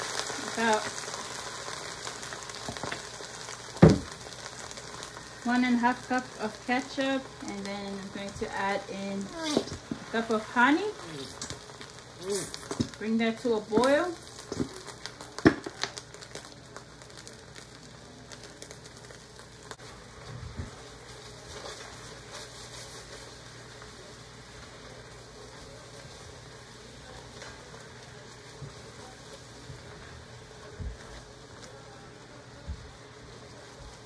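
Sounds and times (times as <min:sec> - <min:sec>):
sauce sizzling and bubbling: 0:00.0 - 0:34.0
spatula stirring in pan: 0:00.0 - 0:34.0.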